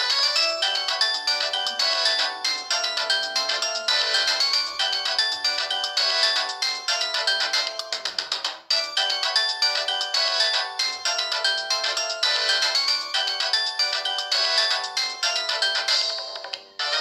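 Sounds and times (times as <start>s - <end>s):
polyphonic phone ringtone: 0.3s - 8.1s, 8.7s - 17.0s.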